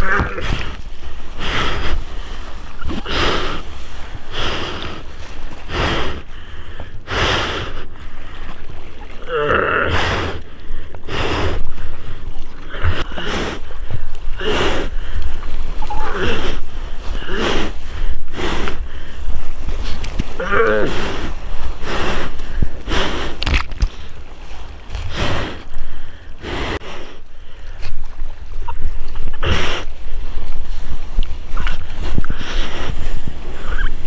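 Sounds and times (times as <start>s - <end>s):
low rumble of moving water: 0.0s - 34.0s.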